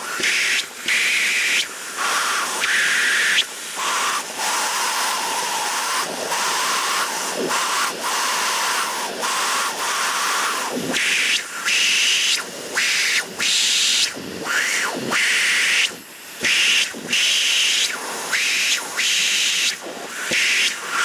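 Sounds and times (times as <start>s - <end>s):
vacuum cleaner sucking air: 0.0s - 21.0s
vacuum nozzle whines: 0.0s - 21.0s.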